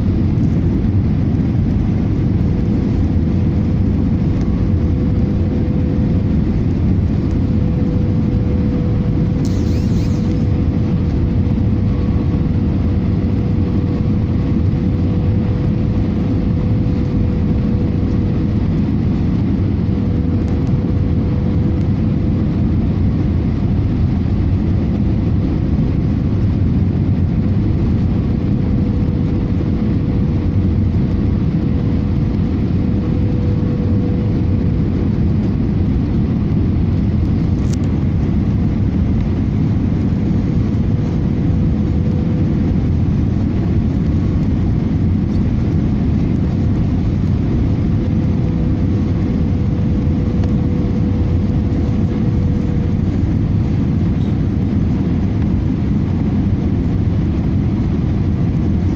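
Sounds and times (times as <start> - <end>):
airliner cabin rumble: 0.0 - 58.9
faint hum: 0.0 - 58.9.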